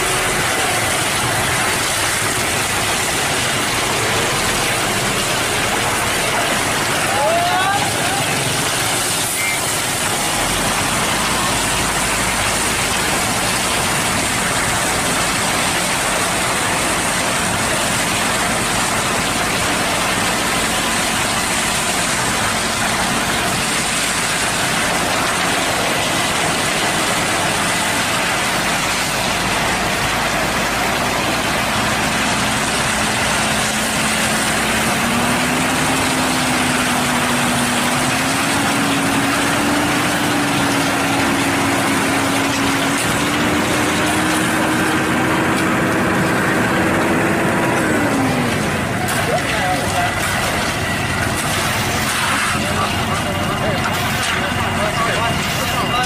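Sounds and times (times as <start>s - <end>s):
heavy diesel truck engine running: 0.0s - 56.0s.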